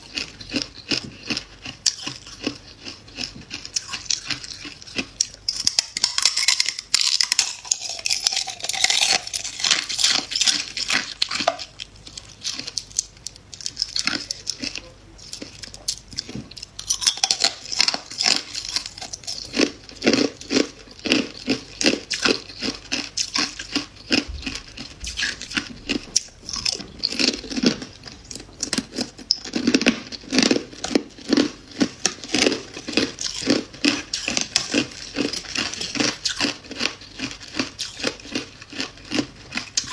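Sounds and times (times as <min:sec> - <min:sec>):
chewing and crunching frost: 0:00.0 - 0:39.9.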